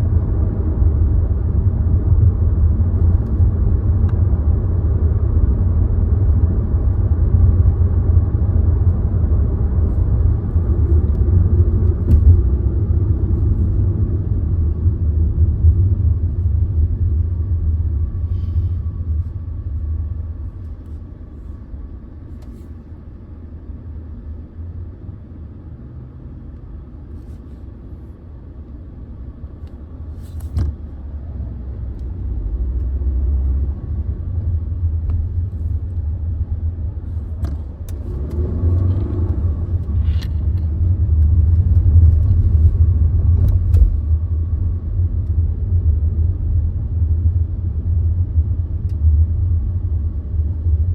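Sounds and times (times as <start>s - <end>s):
car engine rumbling: 0.0s - 50.9s.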